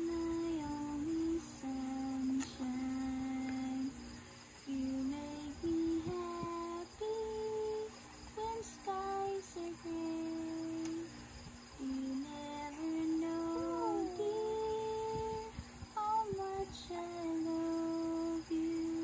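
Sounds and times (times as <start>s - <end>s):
woman humming a lullaby: 0.0s - 11.1s, 11.7s - 19.0s.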